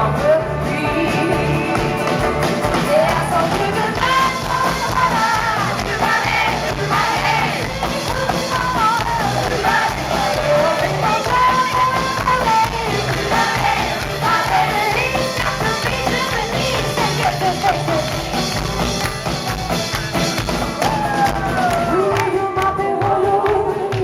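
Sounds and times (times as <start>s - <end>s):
person singing: 0.0s - 18.4s, 20.9s - 24.0s
live rock band: 0.0s - 24.0s.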